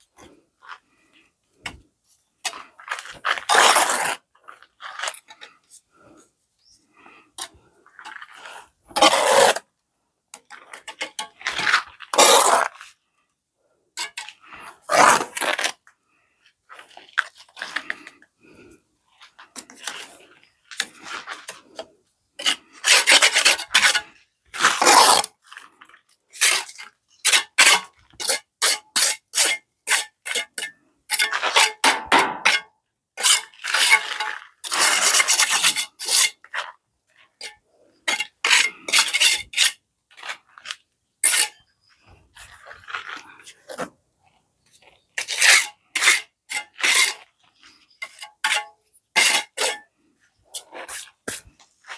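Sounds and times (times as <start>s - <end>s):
hand tool scraping masonry: 1.7s - 5.8s, 7.4s - 9.7s, 10.4s - 13.0s, 14.0s - 15.8s, 19.3s - 25.7s, 26.3s - 43.9s, 44.7s - 51.9s.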